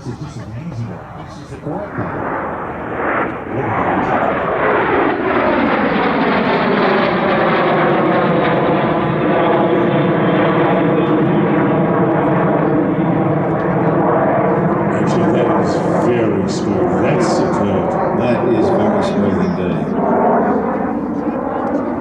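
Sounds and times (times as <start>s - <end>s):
aircraft engines flying past: 0.0s - 22.0s.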